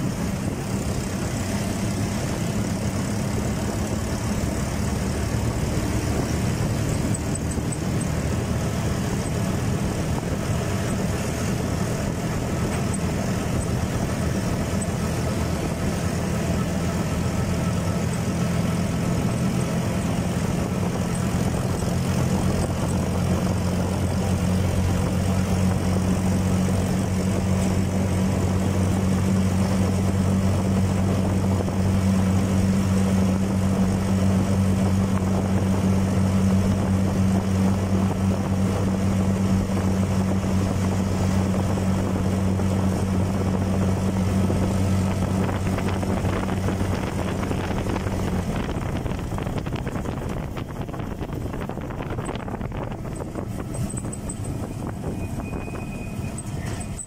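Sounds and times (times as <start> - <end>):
road noise: 0.0 - 57.0
small engine droning: 0.0 - 57.0.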